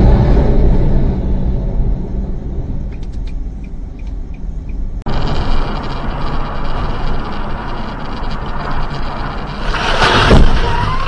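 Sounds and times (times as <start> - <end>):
rush of noise: 0.0 - 3.9, 5.0 - 11.0
car road and engine noise: 0.0 - 11.0.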